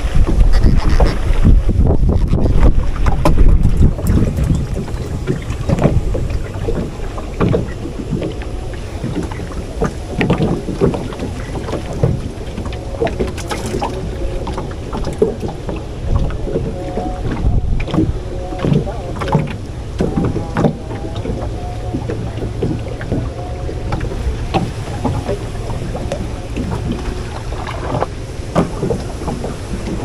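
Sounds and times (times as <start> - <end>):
wind rumbling on microphone: 0.0 - 30.0
knocks and clicks of fishing gear: 2.1 - 30.0.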